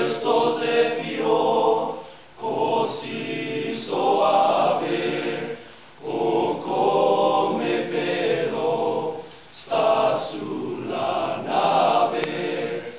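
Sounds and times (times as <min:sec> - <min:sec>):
boys' choir singing: 0:00.0 - 0:12.9.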